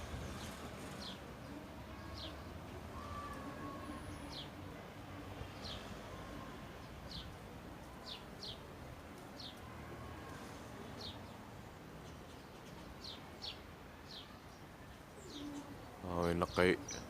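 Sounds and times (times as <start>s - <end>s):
outdoor background noise: 0.0s - 17.0s
songbird chirping: 0.0s - 17.0s.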